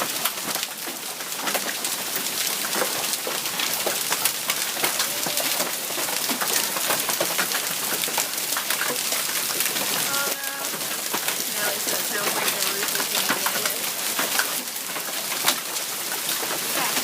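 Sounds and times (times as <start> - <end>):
hail striking hard surfaces: 0.0 - 17.0.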